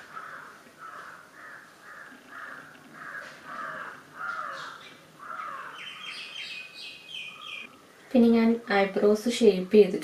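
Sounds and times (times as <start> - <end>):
bird calling: 0.0 - 8.9.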